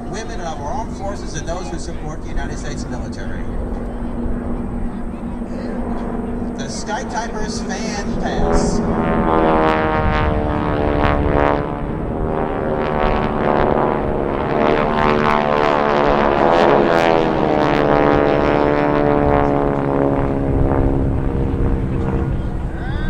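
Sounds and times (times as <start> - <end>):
propeller planes flying over: 0.0 - 23.0.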